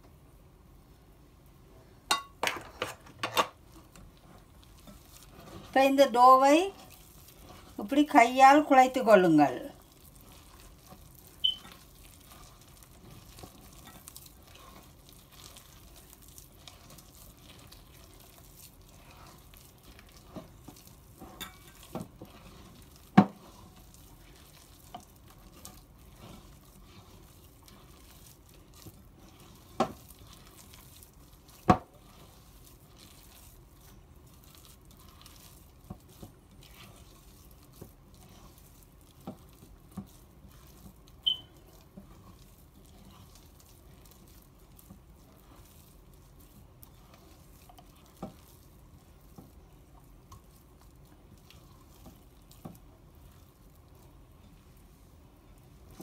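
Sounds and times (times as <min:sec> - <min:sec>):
dough squishing: 0:03.5 - 0:56.0.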